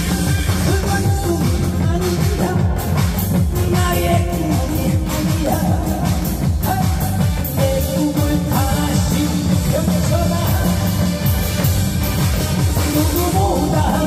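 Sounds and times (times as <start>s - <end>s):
upbeat backing music: 0.0s - 14.0s.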